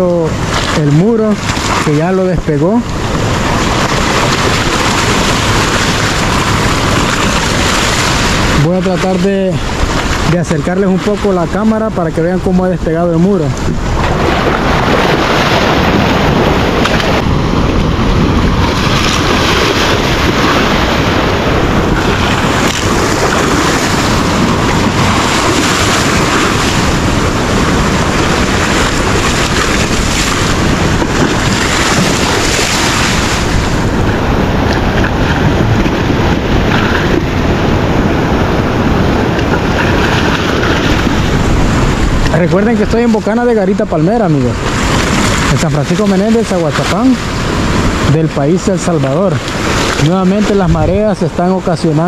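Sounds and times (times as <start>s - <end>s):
surf breaking against seawall: 0.0s - 52.0s
wind buffeting microphone: 0.0s - 52.0s.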